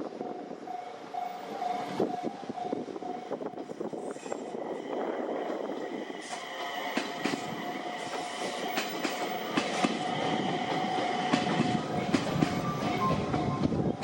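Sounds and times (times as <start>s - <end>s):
electric train running on rails: 0.0s - 14.0s.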